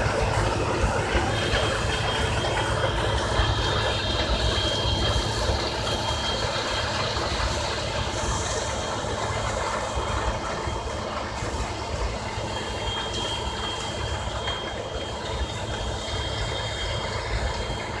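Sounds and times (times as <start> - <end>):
combine harvester running: 0.0 - 18.0
faint high whine: 0.0 - 18.0.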